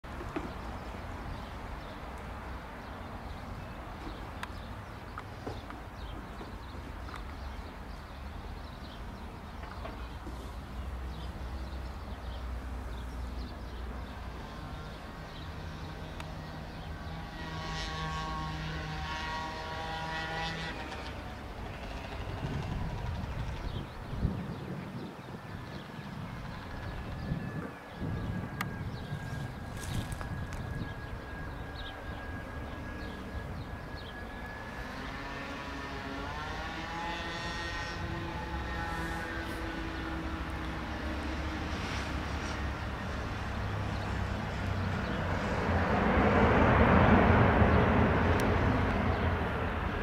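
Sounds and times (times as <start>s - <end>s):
distant jet engine rumble: 0.1s - 50.0s
multi-tone jet whine: 0.1s - 50.0s.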